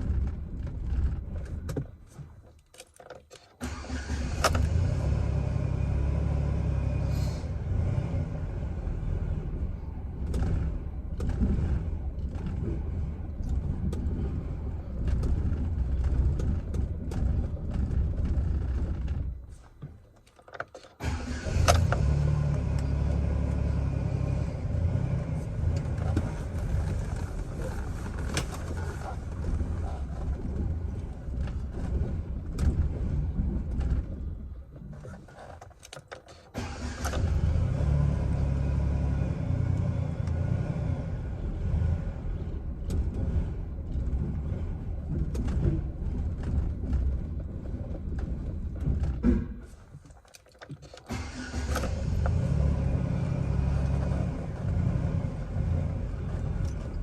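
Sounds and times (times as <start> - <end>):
pickup truck engine rumbling: 0.0 - 2.5, 3.6 - 35.6, 36.4 - 57.0.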